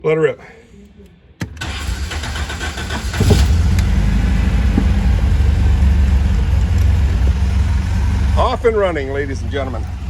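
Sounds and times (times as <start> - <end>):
car engine starting up: 1.5 - 10.0.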